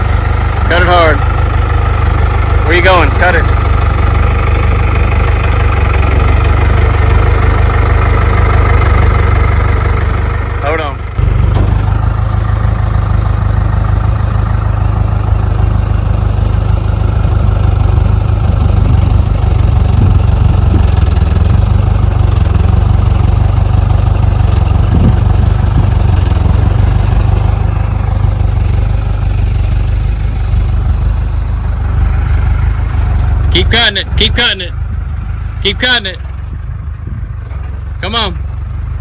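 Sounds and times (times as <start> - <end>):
tractor engine rumbling: 0.0 - 39.0.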